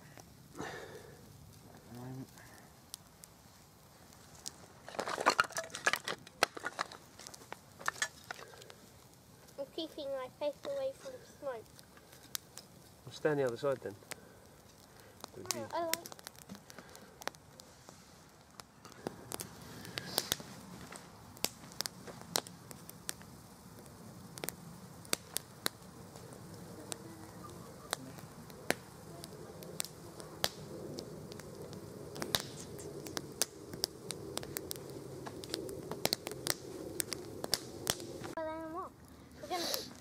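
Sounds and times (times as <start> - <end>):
campfire crackling: 0.0 - 40.0
fire burning rush: 0.0 - 40.0
fire popping and snapping: 0.0 - 40.0.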